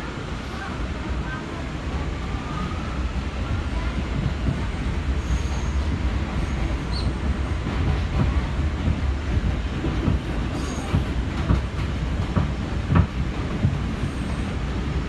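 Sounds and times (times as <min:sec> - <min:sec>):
subway wheels rumbling: 0:00.0 - 0:15.0.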